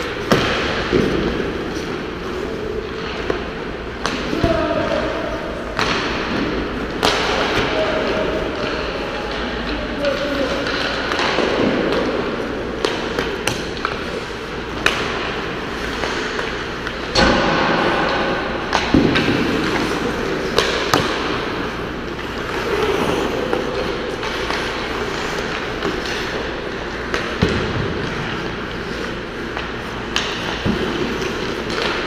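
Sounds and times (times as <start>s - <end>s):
pucks hitting boards and glass: 0.0s - 2.2s, 2.8s - 22.7s, 23.5s - 28.8s, 29.5s - 32.0s
pucks and sticks clacking: 0.0s - 32.0s.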